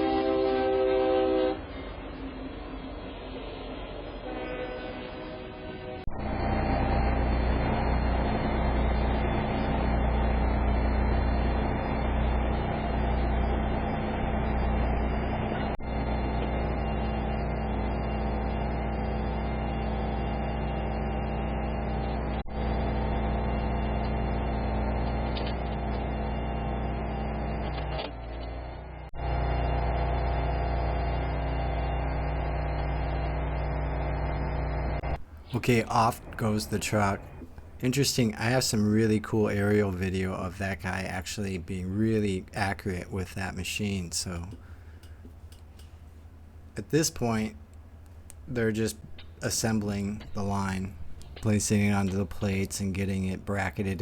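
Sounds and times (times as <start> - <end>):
truck engine running: 6.1 - 54.0.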